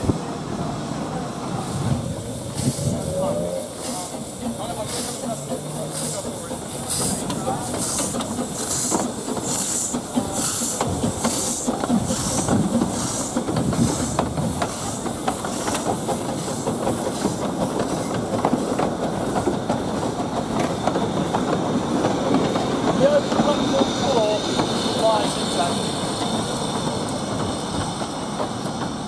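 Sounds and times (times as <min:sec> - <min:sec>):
steam locomotive chuffing: 0:00.0 - 0:29.0
train wheels clicking on track: 0:00.0 - 0:29.0.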